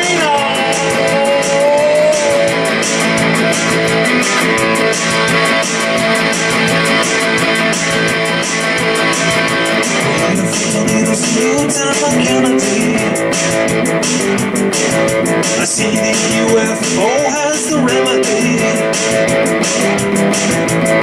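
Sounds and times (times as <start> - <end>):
electric guitar strumming: 0.0 - 21.0.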